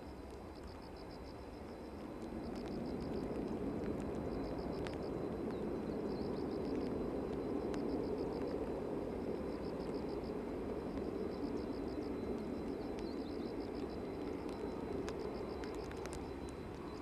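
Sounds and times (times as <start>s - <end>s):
distant jet engines roaring: 0.0s - 17.0s
faint high chirping pulses: 0.0s - 17.0s.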